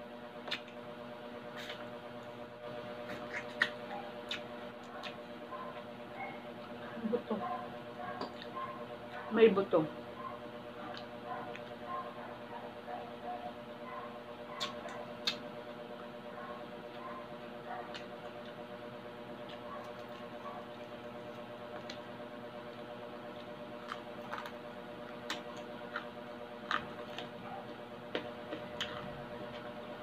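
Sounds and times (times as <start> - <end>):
steady low hum: 0.0 - 30.0
chewing crunchy food: 0.4 - 0.8, 1.5 - 6.0, 8.0 - 9.3, 10.7 - 30.0.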